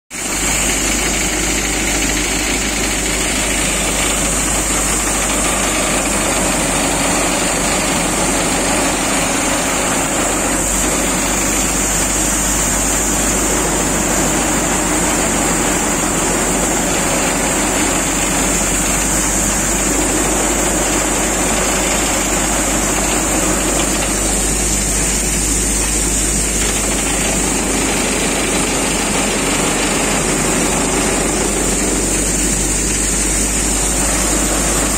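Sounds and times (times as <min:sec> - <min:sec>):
threshing machine running: 0:00.1 - 0:34.9
tractor engine running: 0:00.1 - 0:34.9.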